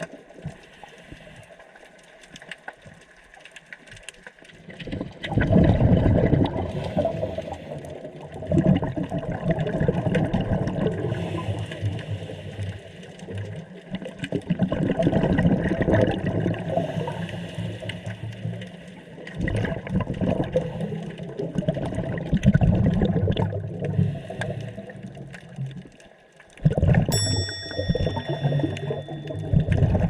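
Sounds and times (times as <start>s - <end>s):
underwater rushing water: 0.0s - 30.0s.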